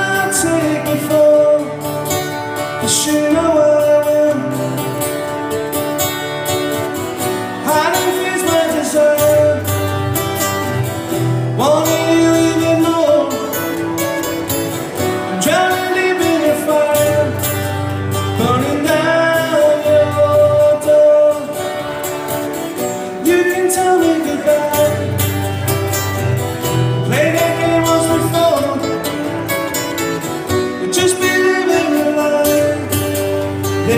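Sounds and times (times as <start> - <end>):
acoustic guitar strumming: 0.0 - 33.9.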